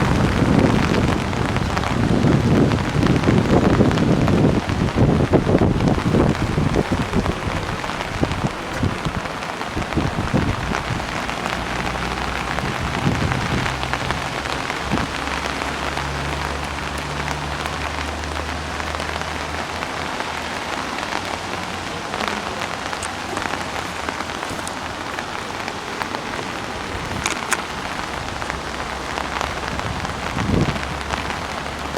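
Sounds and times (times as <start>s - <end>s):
heavy rain on hard surfaces: 0.0s - 31.9s.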